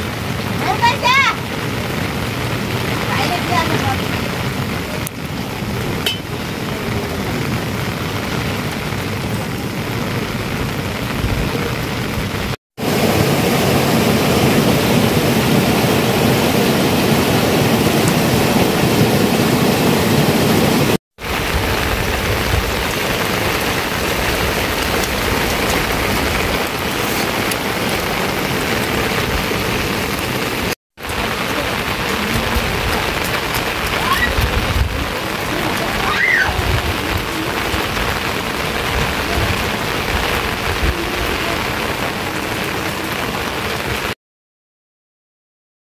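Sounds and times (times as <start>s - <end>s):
heavy rain: 0.0s - 44.2s.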